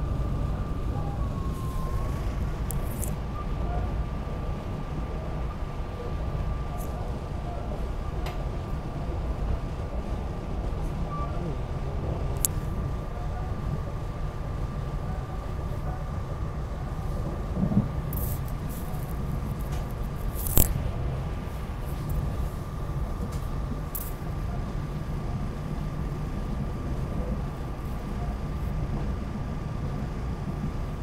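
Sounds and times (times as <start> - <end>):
faint steady whine: 0.0 - 31.0.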